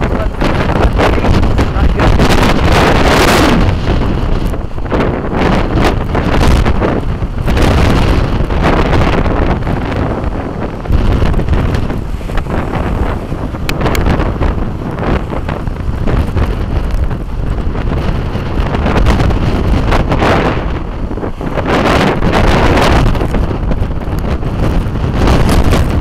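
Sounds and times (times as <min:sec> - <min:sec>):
wind gusts buffeting microphone: 0:00.0 - 0:26.0.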